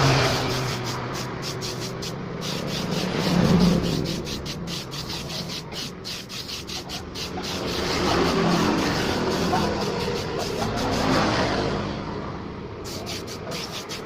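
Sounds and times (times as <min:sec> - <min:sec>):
sandpaper rubbing a surface: 0:00.0 - 0:11.4, 0:12.8 - 0:14.0.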